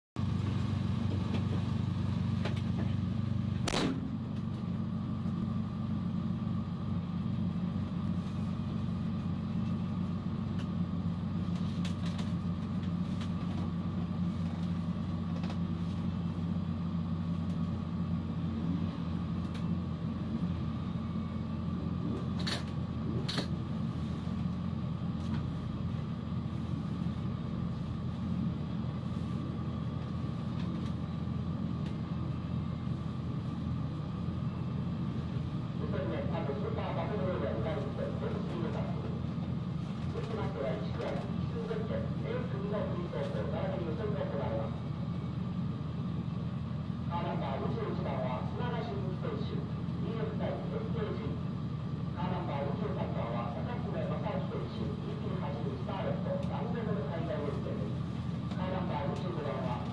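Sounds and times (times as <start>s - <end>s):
car engine idling: 0.2s - 59.9s.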